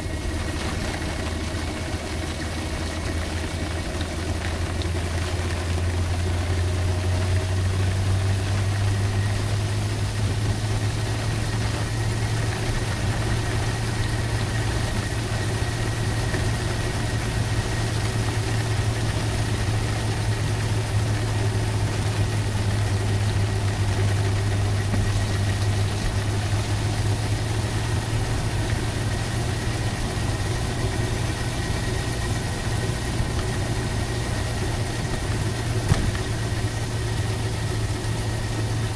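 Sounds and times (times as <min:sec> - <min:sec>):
rain and wet tyres hissing: 0:00.0 - 0:38.9
vehicle cabin hum: 0:00.0 - 0:38.9.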